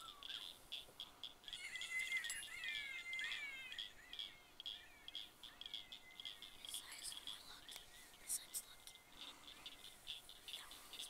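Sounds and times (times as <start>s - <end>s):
gliding bird-like chirps: 0.0s - 11.0s
scratchy clicks: 0.0s - 11.0s.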